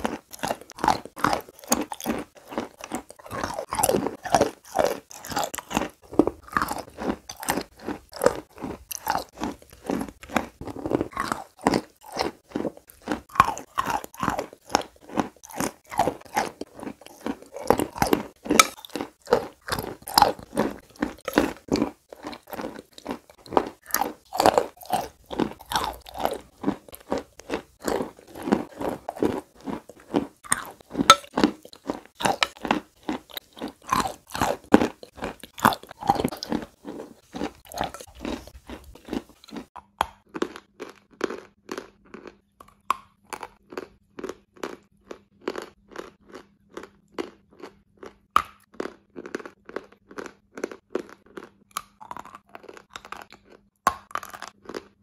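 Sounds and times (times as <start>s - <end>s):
sticky chewing mouth sounds: 0.0s - 55.0s.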